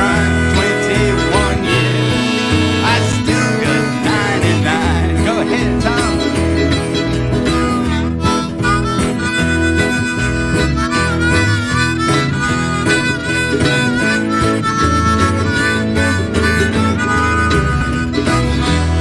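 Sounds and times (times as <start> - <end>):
harmonica with bending notes: 0.0 - 19.0
mandolin: 0.0 - 19.0
strummed acoustic guitar: 0.0 - 19.0.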